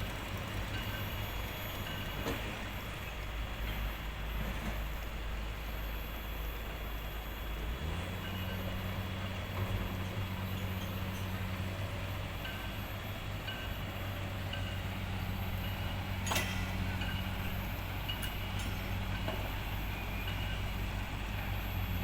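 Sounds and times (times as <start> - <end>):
low vehicle engine hum: 0.0 - 22.0.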